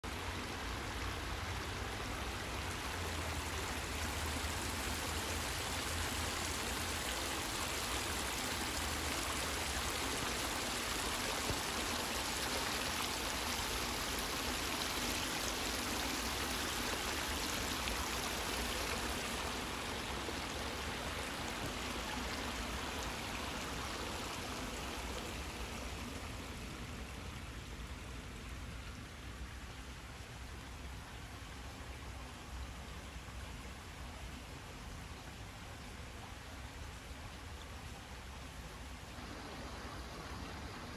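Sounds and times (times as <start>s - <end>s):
brook babbling over rocks: 0.0s - 40.9s.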